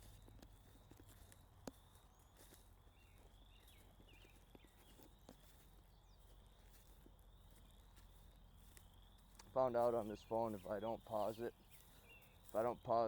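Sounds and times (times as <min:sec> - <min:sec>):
faint footsteps on ground: 0:00.0 - 0:13.0
bird chirping: 0:01.8 - 0:13.0.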